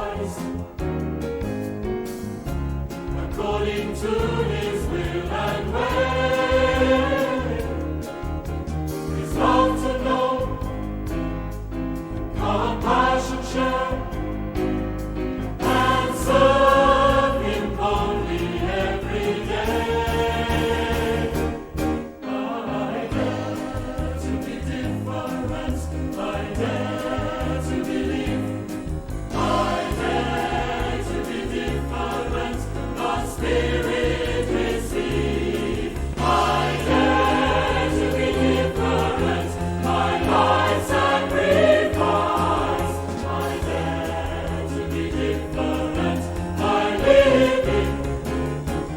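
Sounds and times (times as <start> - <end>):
choir singing worship song: 0.0 - 48.9
instrumental accompaniment: 0.0 - 48.9.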